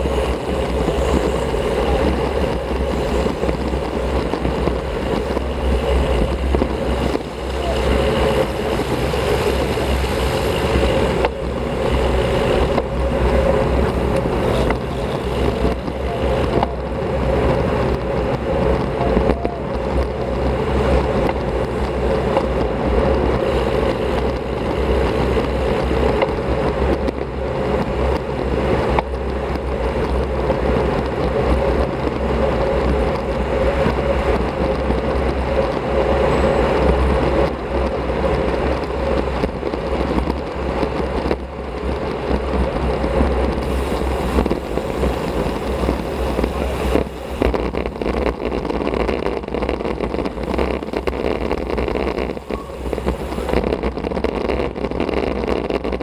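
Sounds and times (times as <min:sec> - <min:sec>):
road rolling noise: 0:00.0 - 0:56.0
wind rushing over microphone: 0:00.0 - 0:56.0.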